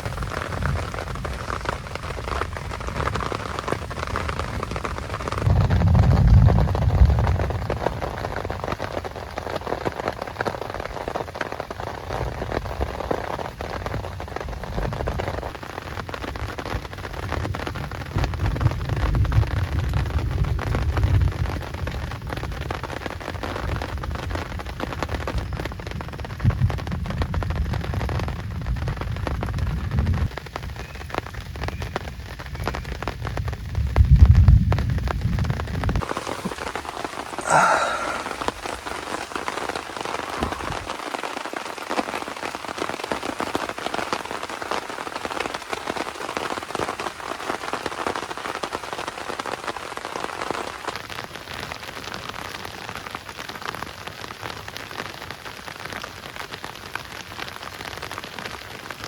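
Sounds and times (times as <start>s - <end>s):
heavy rain pattering: 0.0s - 59.0s.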